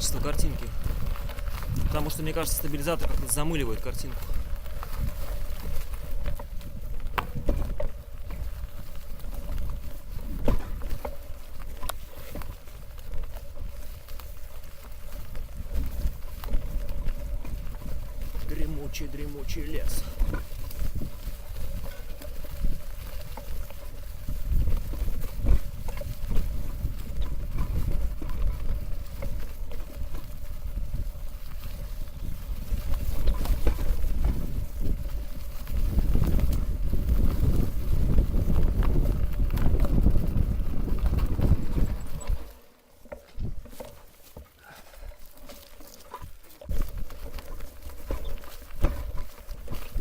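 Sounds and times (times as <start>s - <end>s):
bike knocks and rattles: 0.0s - 50.0s
bike tyres rumbling on rough track: 0.0s - 50.0s.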